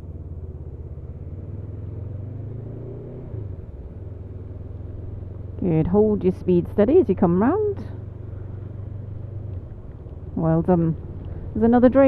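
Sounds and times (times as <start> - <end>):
motorcycle engine running: 0.0 - 2.8, 3.4 - 12.0.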